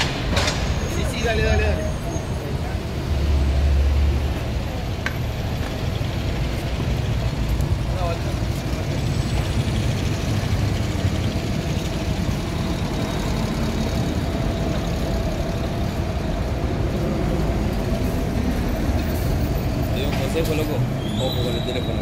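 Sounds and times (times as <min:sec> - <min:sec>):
traffic engines rumbling: 0:00.0 - 0:22.0.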